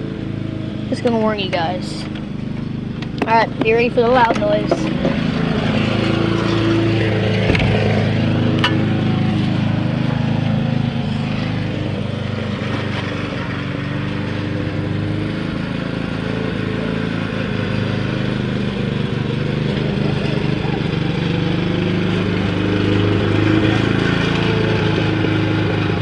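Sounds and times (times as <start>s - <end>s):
small petrol engine running: 0.0s - 26.0s.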